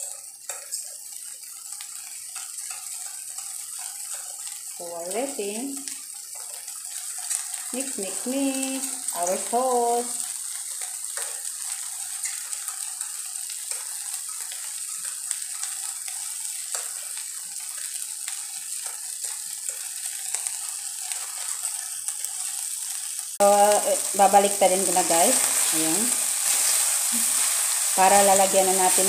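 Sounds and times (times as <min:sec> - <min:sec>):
beef sizzling in a wok: 0:00.0 - 0:29.0.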